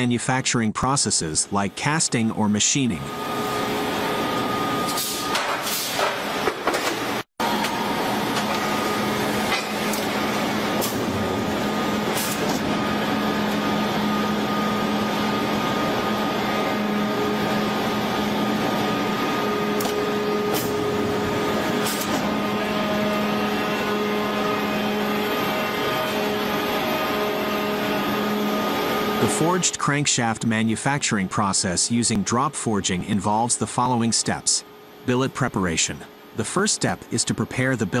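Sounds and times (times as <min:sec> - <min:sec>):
heavy machinery hum and hiss: 0:01.5 - 0:35.4.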